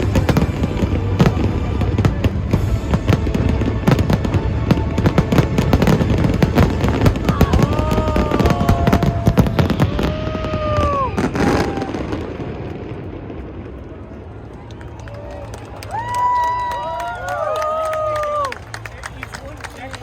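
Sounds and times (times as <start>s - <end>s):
fireworks crackling and bangs: 0.0s - 20.0s.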